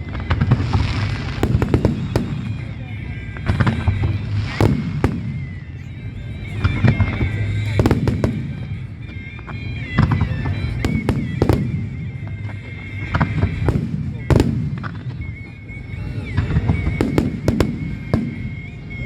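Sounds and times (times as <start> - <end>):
fireworks bursting with echoes: 0.0 - 19.0.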